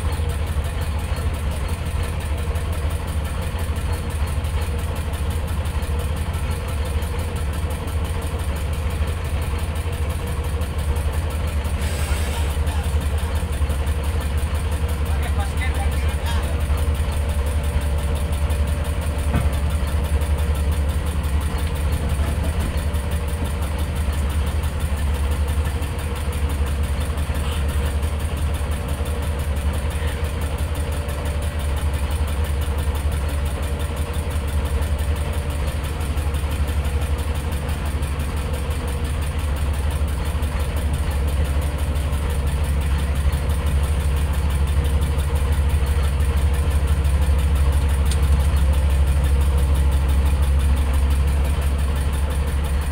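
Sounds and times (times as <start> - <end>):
boat engine idling: 0.0 - 52.9.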